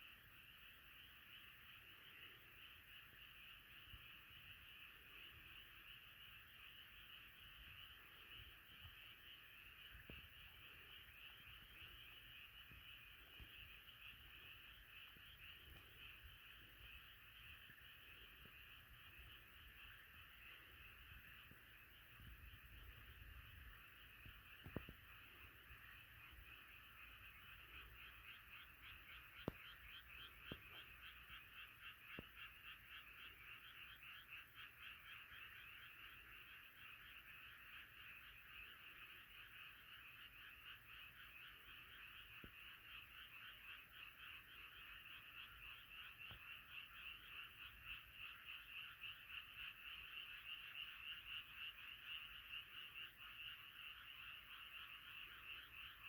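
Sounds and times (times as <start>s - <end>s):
frogs croaking in chorus: 0.0s - 56.0s.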